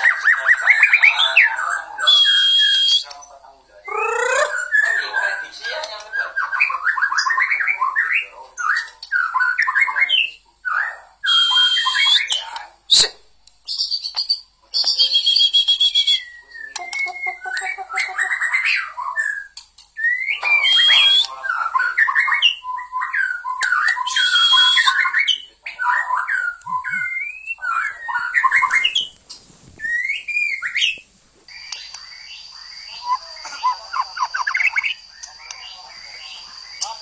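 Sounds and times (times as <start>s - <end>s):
bird singing whistles and trills: 0.0s - 3.2s, 3.9s - 5.2s, 6.0s - 29.1s, 29.8s - 37.0s.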